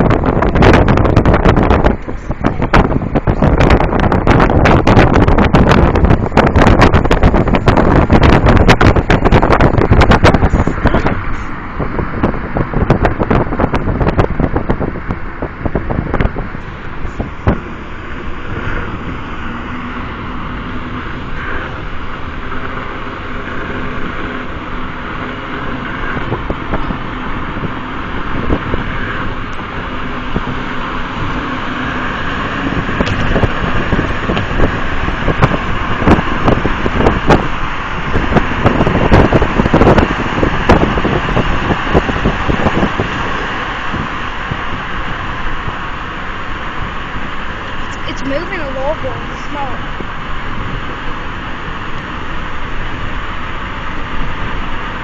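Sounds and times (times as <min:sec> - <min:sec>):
car road noise rumble: 0:00.0 - 0:55.0
irregular thumps and buffets: 0:00.0 - 0:55.0.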